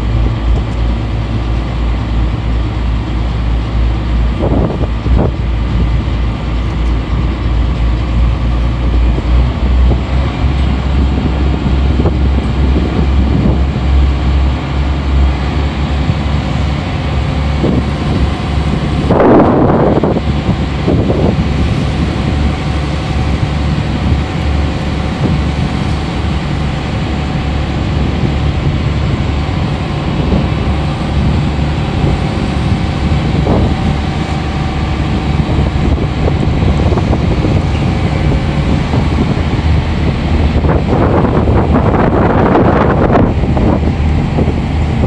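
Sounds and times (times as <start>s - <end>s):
boat engine running: 0.0s - 45.0s
wind buffeting microphone: 0.0s - 45.0s.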